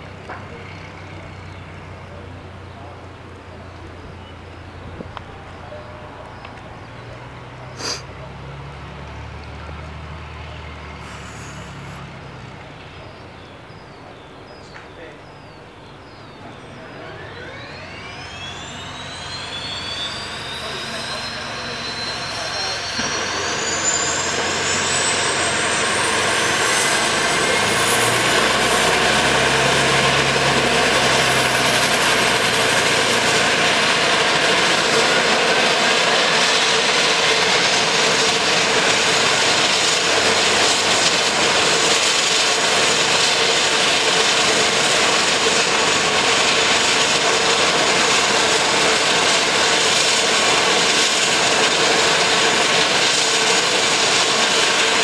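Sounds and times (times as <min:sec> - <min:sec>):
turboprop engine whine: 0:00.0 - 0:55.0.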